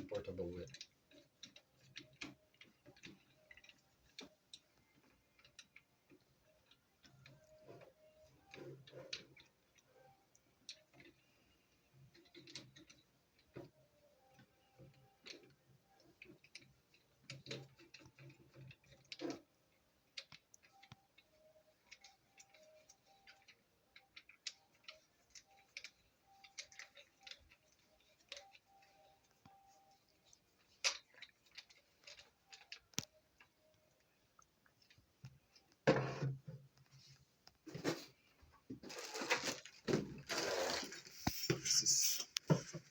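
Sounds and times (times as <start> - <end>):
tools and packaging clicking: 0.0 - 42.9.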